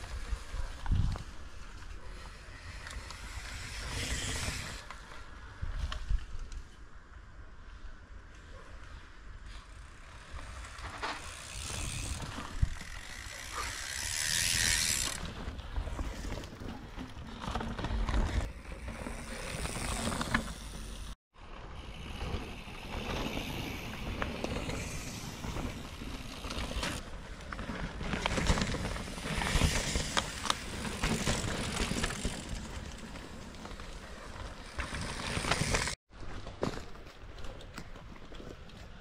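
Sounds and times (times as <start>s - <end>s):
bike clicks and rattles: 0.0s - 6.9s, 9.4s - 21.2s, 21.8s - 39.0s
bike tyres on dirt: 0.0s - 39.0s.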